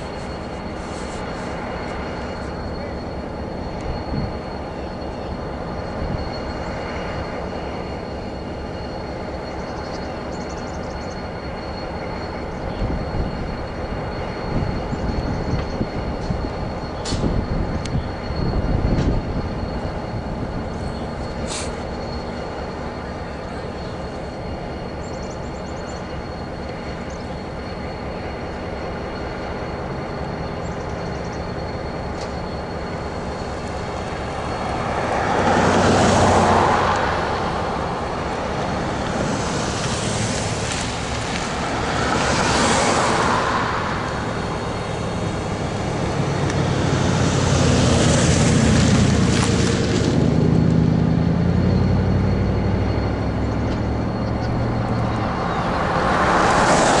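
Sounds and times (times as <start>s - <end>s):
diesel locomotive idling: 0.0s - 57.0s
rushing noise: 0.0s - 57.0s.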